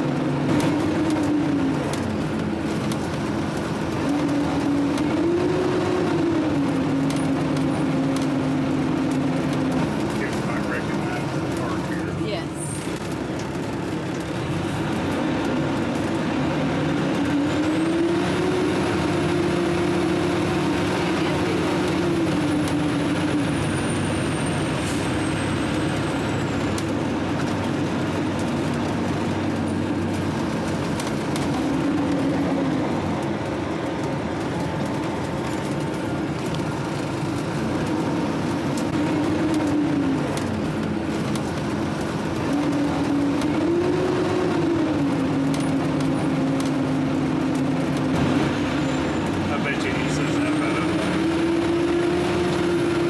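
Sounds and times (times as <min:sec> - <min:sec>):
diesel engine driving: 0:00.0 - 0:53.0
road noise: 0:00.0 - 0:53.0.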